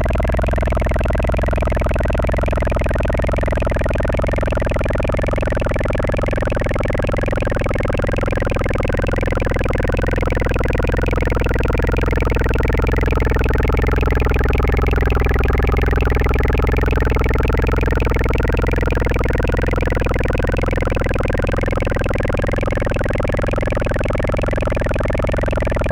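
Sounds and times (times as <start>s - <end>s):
dense electronic drone: 0.0s - 25.9s.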